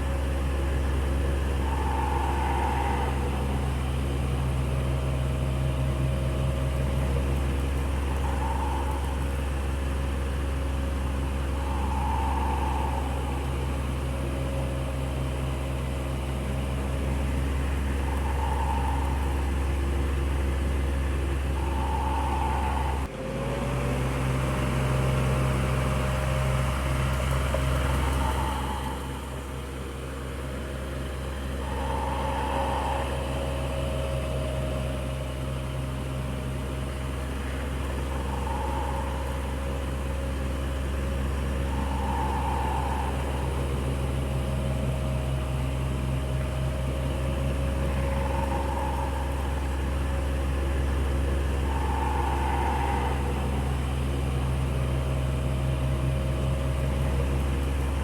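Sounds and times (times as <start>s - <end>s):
electric fan motor hum: 0.0s - 23.1s, 24.1s - 58.0s
air rushing from fan: 0.0s - 58.0s.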